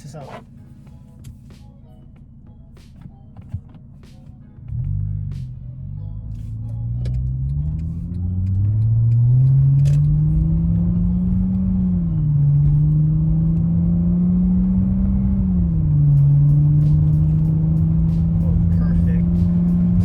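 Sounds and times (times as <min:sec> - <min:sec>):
car engine accelerating: 0:02.8 - 0:20.0.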